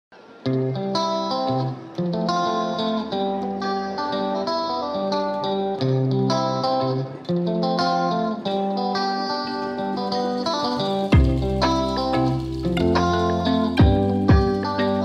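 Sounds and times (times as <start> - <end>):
plucked guitar tune: 0.1 - 15.0.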